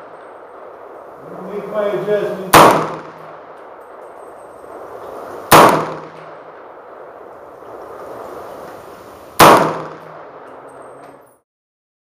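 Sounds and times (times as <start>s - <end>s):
rifle shots with echo: 0.0s - 11.1s.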